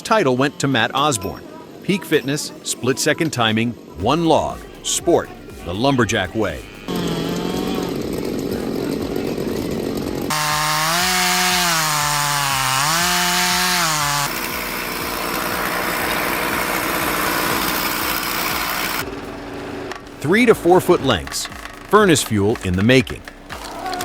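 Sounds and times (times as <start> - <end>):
chainsaw cutting timber: 4.0 - 24.0.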